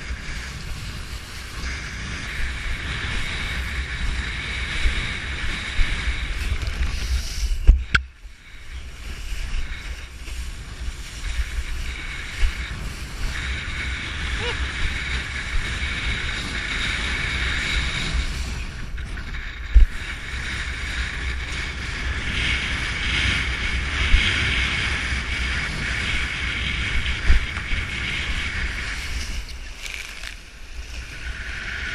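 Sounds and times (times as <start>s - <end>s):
wind rumbling on microphone: 0.0s - 31.9s.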